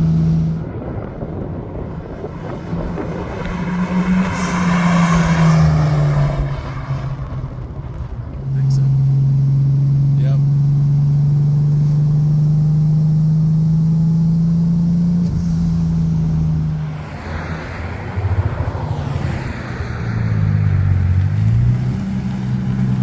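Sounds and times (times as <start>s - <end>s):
turbocharged car engine revving: 0.0s - 0.8s, 2.5s - 7.3s, 8.4s - 23.0s.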